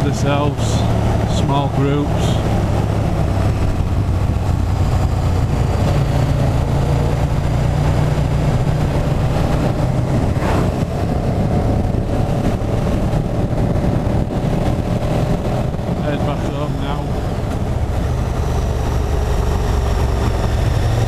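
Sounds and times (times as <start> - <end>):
motorcycle engine running: 0.0 - 21.0
rush of noise: 0.0 - 21.0.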